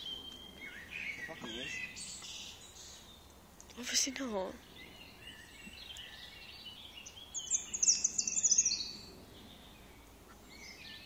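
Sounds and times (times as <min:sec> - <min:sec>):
faint background birdsong: 0:00.0 - 0:11.0
small bird chirping rapidly: 0:00.0 - 0:11.0.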